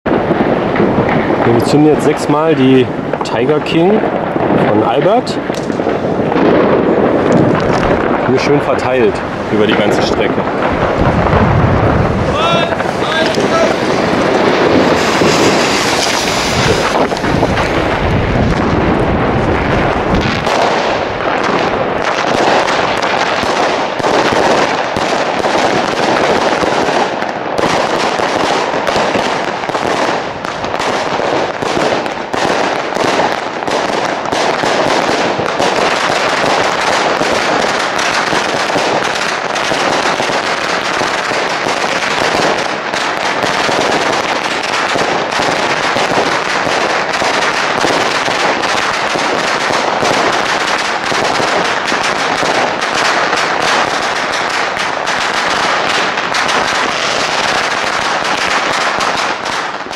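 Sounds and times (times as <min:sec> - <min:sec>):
fireworks barrage and crackling: 0:00.0 - 0:59.9.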